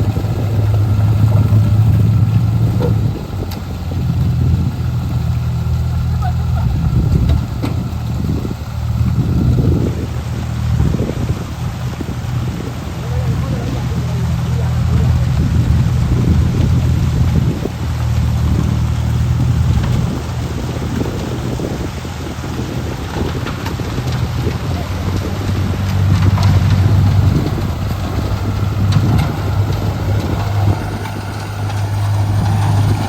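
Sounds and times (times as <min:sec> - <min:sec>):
heavy machine engine rumbling: 0:00.0 - 0:33.0.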